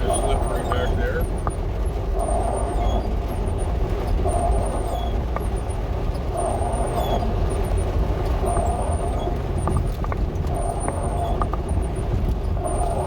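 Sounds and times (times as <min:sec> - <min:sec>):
engine and road rumble: 0:00.0 - 0:13.0
windshield wipers swishing and squeaking: 0:00.0 - 0:13.0.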